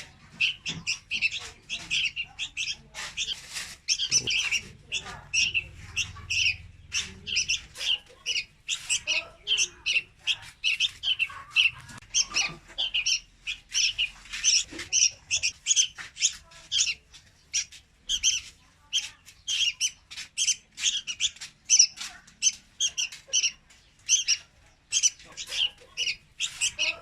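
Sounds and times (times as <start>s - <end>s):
bird calling with high chirps: 0.0s - 27.0s.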